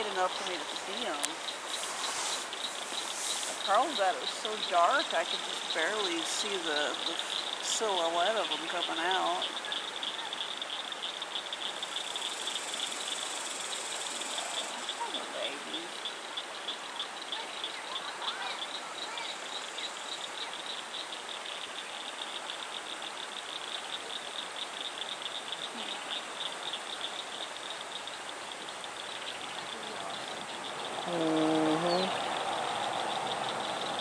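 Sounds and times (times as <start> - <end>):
crickets chirping: 0.0 - 34.0
soft hiss: 0.0 - 34.0.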